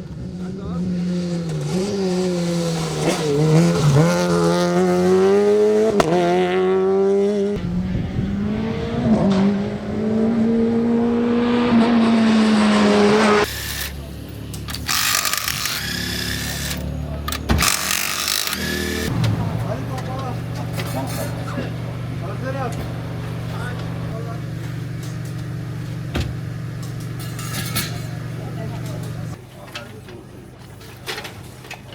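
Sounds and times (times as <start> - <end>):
rally car engine at high revs: 0.0 - 29.4.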